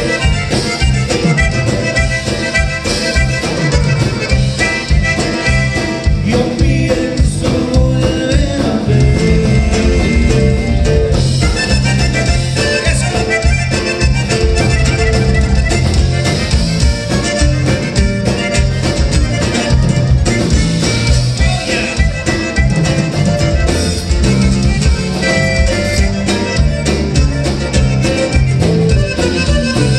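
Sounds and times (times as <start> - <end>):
bass: 0.0 - 29.9
button accordion: 0.0 - 29.9
drums dance beat: 0.0 - 29.9
twelve-string guitar: 0.0 - 29.9.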